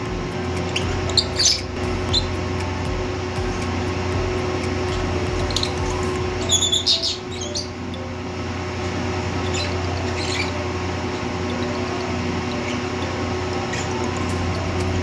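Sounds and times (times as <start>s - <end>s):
lovebirds chirping: 0.0s - 15.0s
steady low hum: 0.0s - 15.0s.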